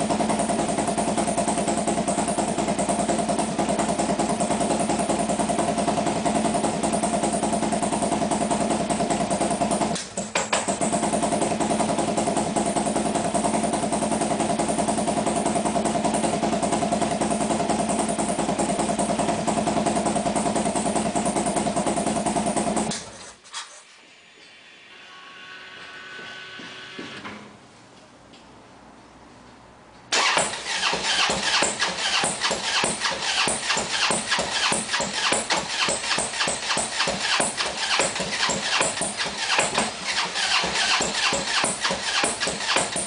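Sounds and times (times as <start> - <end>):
motorcycle engine running: 0.0 - 23.3, 30.2 - 43.0.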